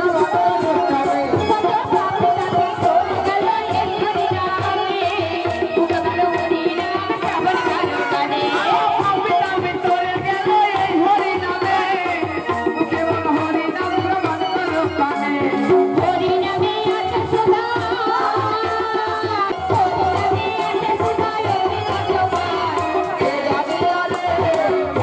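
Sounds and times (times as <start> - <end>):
devotional singing: 0.0 - 25.0
hand drum rhythm: 0.0 - 25.0.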